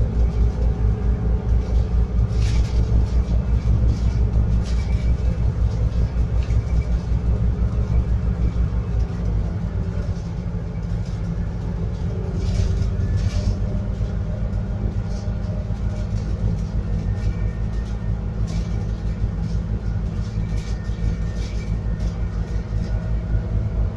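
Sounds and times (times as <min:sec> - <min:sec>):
bus engine rumble: 0:00.0 - 0:23.9
bus running noise: 0:00.0 - 0:23.9.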